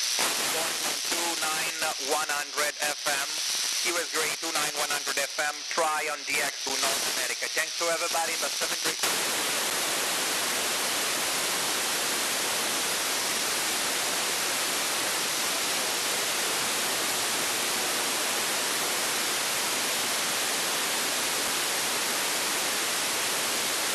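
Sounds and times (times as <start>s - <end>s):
radio static hiss: 0.0s - 23.9s.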